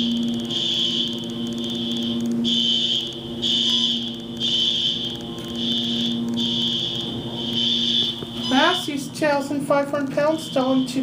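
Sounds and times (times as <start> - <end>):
fire alarm horn pulses: 0.0 - 11.0
steady low hum: 0.0 - 11.0.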